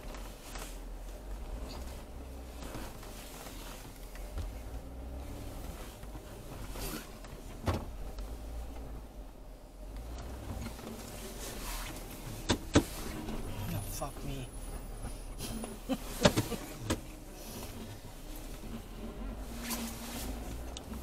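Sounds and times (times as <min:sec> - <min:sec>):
engine rumble from inside cabin: 0:00.0 - 0:21.0.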